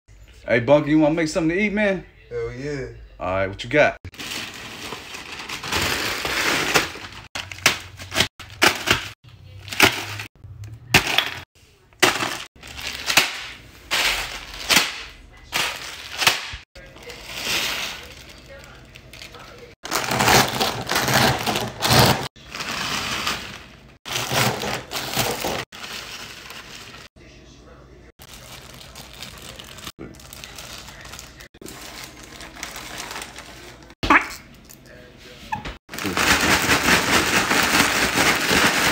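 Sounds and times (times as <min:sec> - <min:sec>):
plastic bag rustling: 0:04.1 - 0:10.4, 0:11.0 - 0:27.1, 0:28.2 - 0:34.0, 0:35.8 - 0:38.9.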